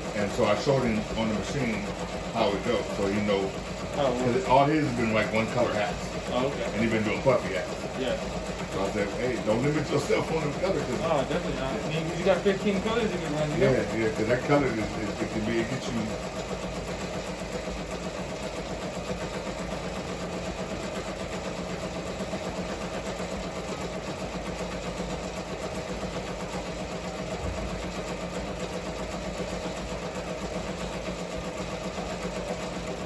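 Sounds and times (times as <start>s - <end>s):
embroidery machine stitching: 0.0s - 33.0s.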